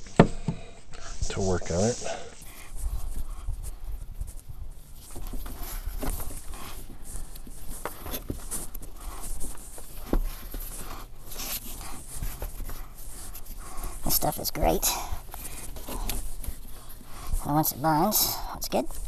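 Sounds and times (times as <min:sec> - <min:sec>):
rubber tape scraping: 0:01.0 - 0:19.0.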